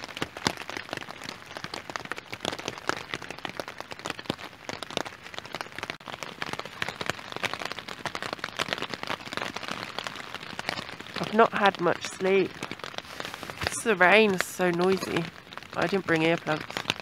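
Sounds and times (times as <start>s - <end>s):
rain pattering on tent fabric: 0.0s - 17.0s.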